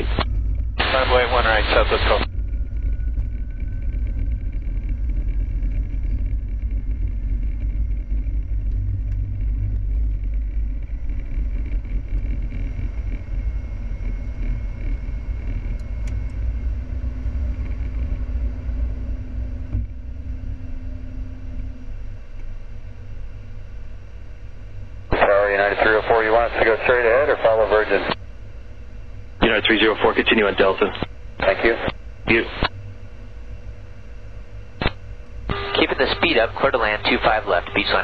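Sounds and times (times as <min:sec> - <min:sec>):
faint rising whine: 0:00.0 - 0:38.0
jet engine and runway rumble: 0:00.0 - 0:38.0.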